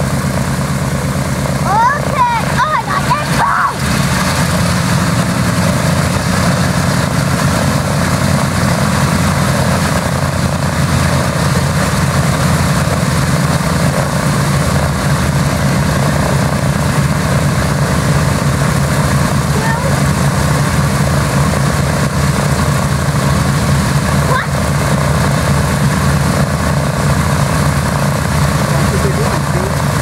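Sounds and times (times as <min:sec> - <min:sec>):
radial aircraft engines idling: 0:00.0 - 0:30.0.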